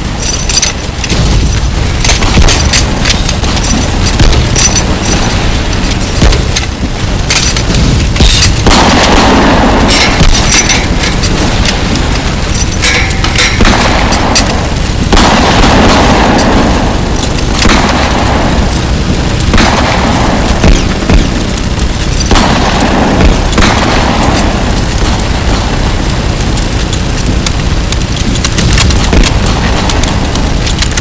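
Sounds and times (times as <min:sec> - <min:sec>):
gunshots: 0:00.0 - 0:31.0
heavy booms: 0:00.0 - 0:31.0
low rumble: 0:00.0 - 0:31.0.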